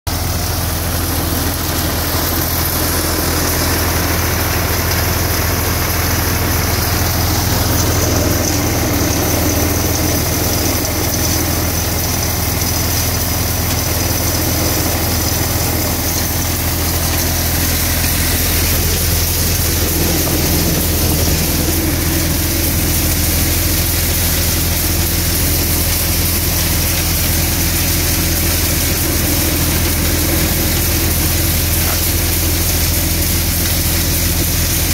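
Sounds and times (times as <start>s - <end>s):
thresher and tractor engine drone: 0.1s - 34.9s.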